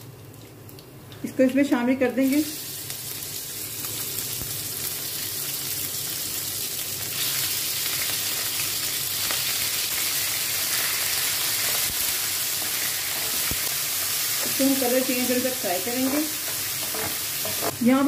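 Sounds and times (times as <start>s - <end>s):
chicken sizzling in hot oil: 2.2s - 18.0s.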